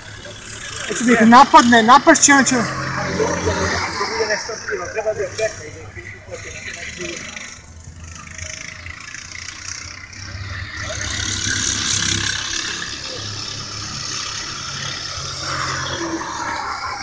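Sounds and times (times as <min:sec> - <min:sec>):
go-kart engines humming: 0:00.0 - 0:17.0.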